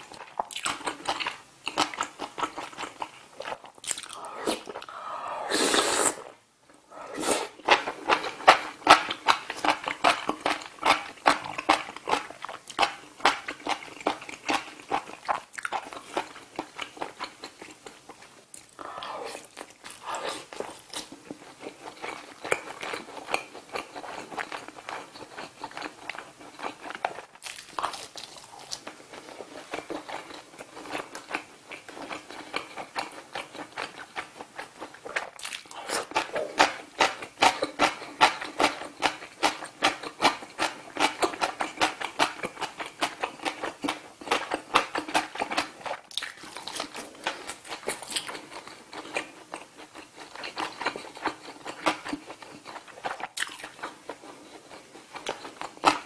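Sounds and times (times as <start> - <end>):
close chewing mouth sounds: 0.0 - 5.2, 7.3 - 56.0.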